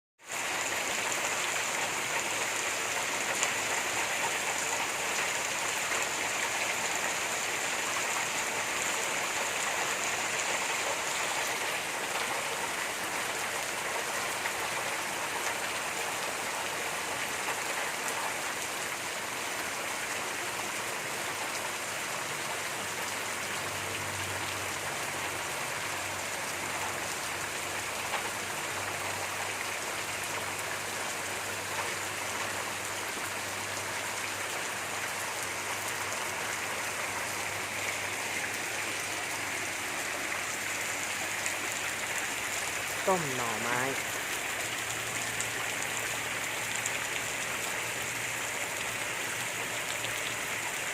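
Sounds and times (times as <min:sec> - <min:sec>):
steady rain hiss: 0:00.2 - 0:50.9.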